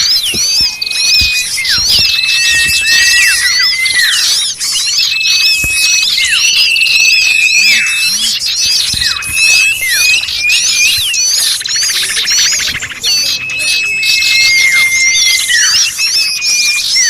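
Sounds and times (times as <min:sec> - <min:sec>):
bird whistles: 0:00.0 - 0:17.0
small birds chirping: 0:00.0 - 0:17.0.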